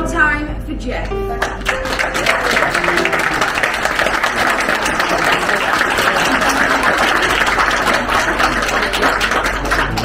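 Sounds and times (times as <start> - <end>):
crowd clapping: 1.3 - 10.0.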